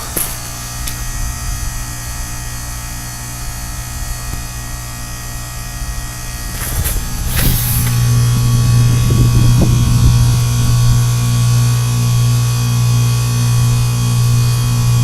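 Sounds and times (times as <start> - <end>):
heat pump compressor humming: 0.0 - 15.0.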